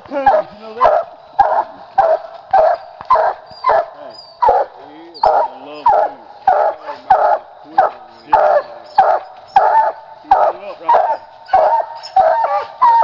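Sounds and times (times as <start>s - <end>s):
dog barking: 0.2s - 13.0s.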